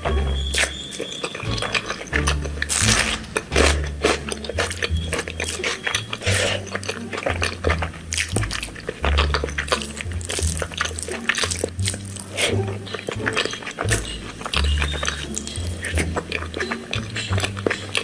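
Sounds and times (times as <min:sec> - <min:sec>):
chewing with wet smacks: 0:00.0 - 0:18.0.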